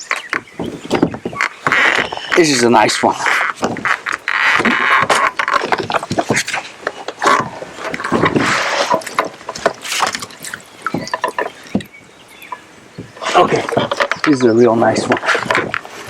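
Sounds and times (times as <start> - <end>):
water splashing: 0.0 - 15.8
knocks and rattles against a kayak: 0.0 - 16.0.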